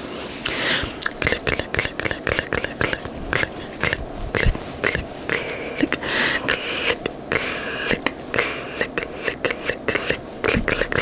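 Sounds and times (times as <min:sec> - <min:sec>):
tongue and lip clicks: 0:00.5 - 0:11.0.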